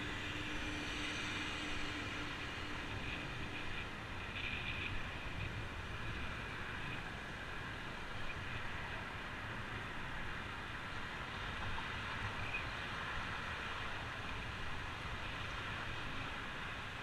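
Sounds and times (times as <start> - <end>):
road traffic passing: 0.0 - 17.0
wind over camera: 0.0 - 17.0.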